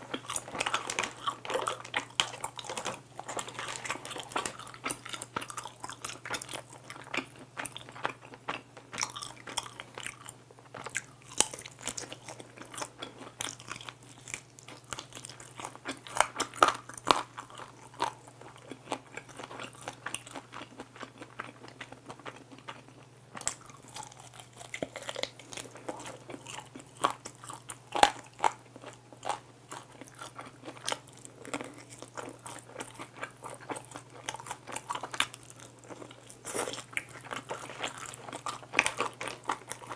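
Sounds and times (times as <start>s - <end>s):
crunchy chicken chewing: 0.0s - 39.9s.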